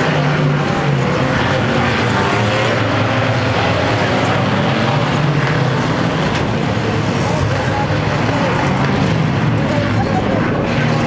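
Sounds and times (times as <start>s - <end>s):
racing car engines running hard: 0.0s - 11.0s.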